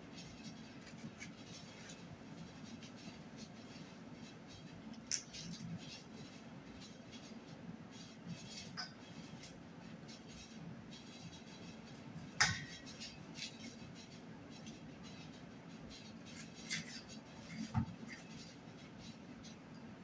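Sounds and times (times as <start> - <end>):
utensils clicking against dishes: 2.8 - 19.6.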